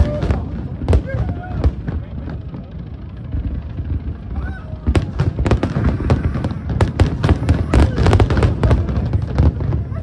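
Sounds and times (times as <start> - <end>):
fireworks bangs and crackles: 0.0 - 10.0
fireworks low booms: 0.0 - 10.0.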